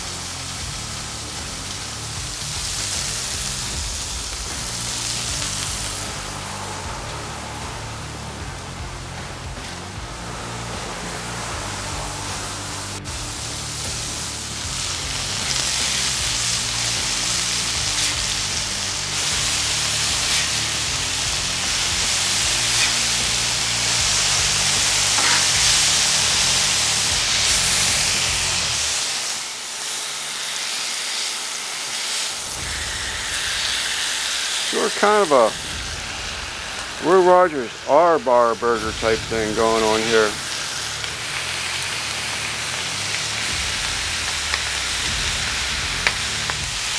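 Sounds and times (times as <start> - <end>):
background music: 0.0 - 29.1, 34.7 - 46.9
patties sizzling on a griddle: 0.0 - 46.9.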